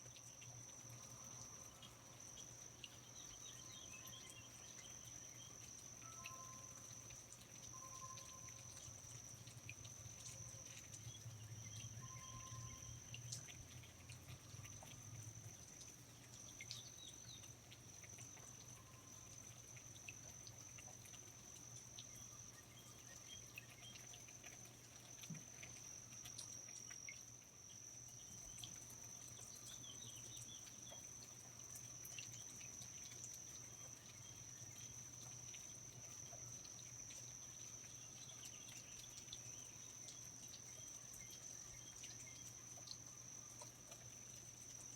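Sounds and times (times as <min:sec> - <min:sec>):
insect high-pitched trill: 0:00.0 - 0:44.9
low steady hum: 0:00.0 - 0:44.9
small ticks: 0:00.0 - 0:44.9
water drips: 0:00.0 - 0:44.9.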